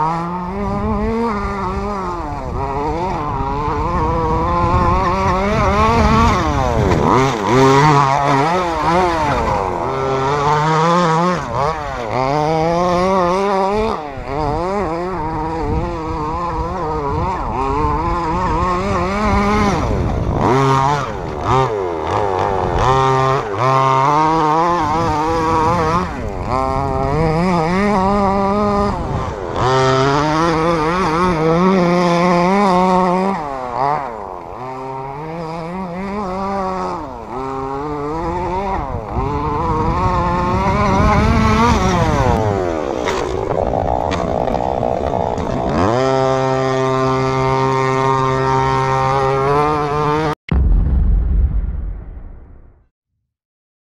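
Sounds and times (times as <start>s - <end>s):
small two-stroke engine revving: 0.0s - 50.4s.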